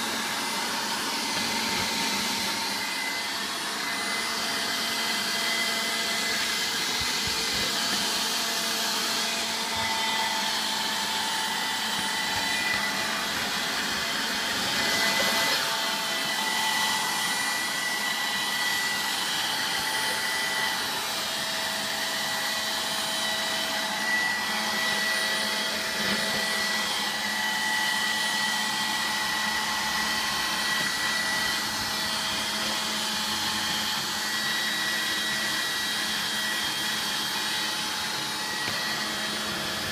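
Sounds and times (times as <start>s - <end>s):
handheld vacuum cleaner running: 0.0s - 39.9s.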